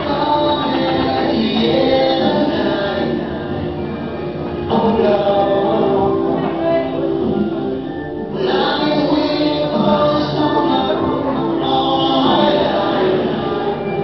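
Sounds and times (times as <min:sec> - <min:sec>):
voices singing together: 0:00.0 - 0:14.0.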